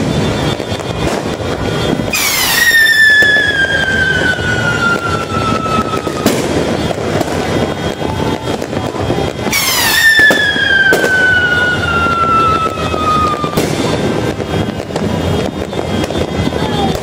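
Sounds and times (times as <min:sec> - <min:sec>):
firecrackers crackling and popping: 0:00.0 - 0:17.0
firework crack: 0:00.0 - 0:17.0
firework whistle falling: 0:00.0 - 0:17.0.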